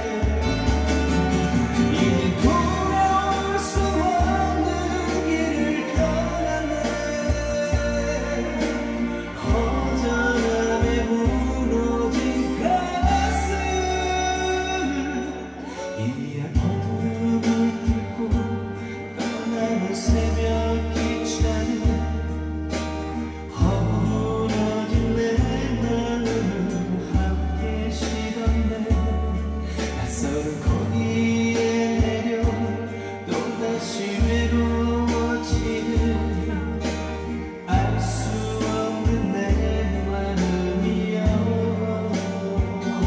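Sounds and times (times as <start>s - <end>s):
backing track with bass and drums: 0.0s - 43.0s
man singing into a microphone: 0.0s - 43.0s.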